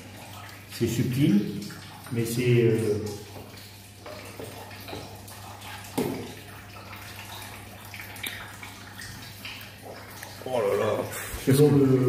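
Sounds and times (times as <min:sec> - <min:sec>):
curd slopping and dripping: 0:00.0 - 0:12.0.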